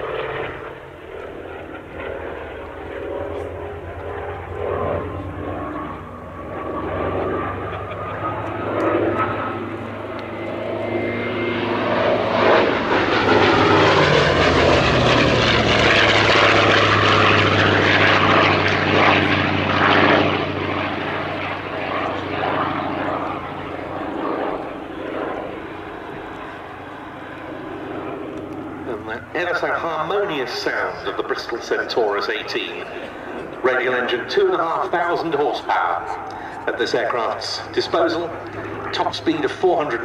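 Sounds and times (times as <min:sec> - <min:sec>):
propeller plane engine flypast: 0:00.0 - 0:40.0.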